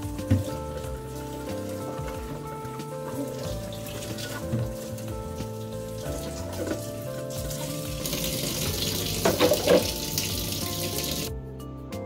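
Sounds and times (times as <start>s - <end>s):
faucet water splashing in sink: 0.0s - 11.3s
soft background music: 0.0s - 12.0s.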